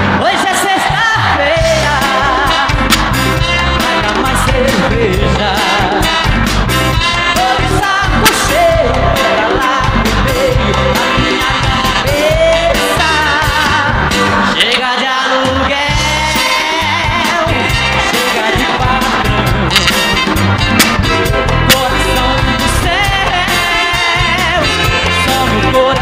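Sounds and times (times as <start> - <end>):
live band beat: 0.0 - 26.0
man singing into microphone: 0.1 - 6.3, 7.0 - 20.2, 21.6 - 26.0.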